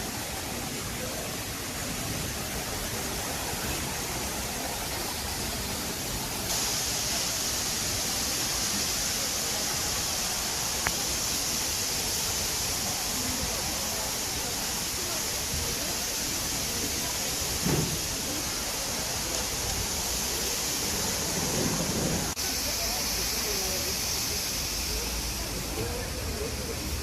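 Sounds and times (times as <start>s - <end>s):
waterfall pouring: 0.0s - 27.0s.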